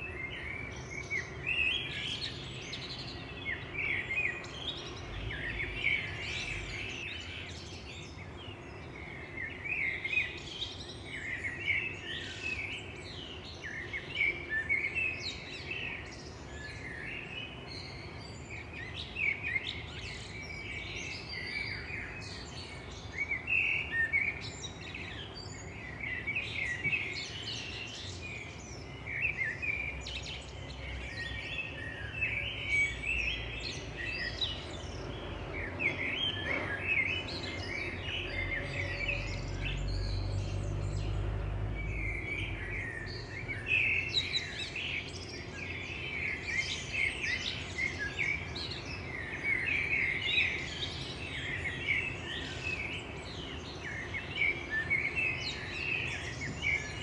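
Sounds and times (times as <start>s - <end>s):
birds singing and chirping: 0.0s - 57.0s.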